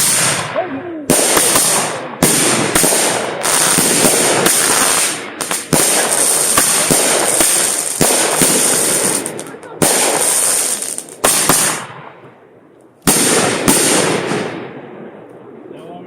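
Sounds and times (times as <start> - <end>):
fireworks bangs: 0.0 - 12.4, 13.0 - 15.3
crackling sizzle of fireworks: 0.0 - 15.4.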